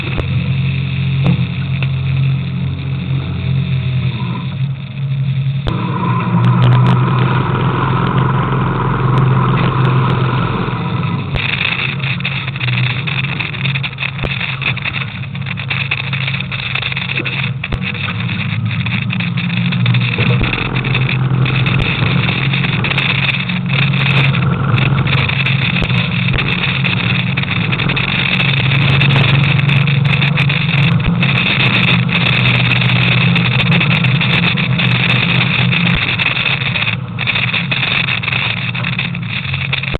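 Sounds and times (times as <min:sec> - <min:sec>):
boat engine running: 0:00.0 - 0:39.9
high whine: 0:00.0 - 0:39.9.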